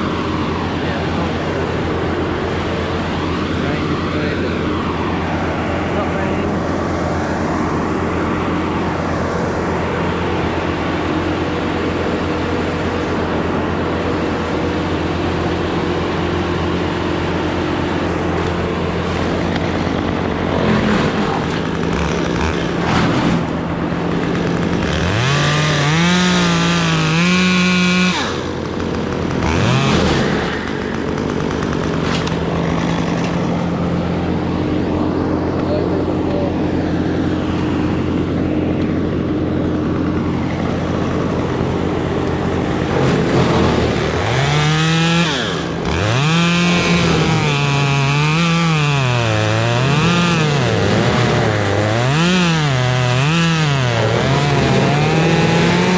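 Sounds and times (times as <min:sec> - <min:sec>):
chainsaw revving: 0:00.0 - 0:55.9.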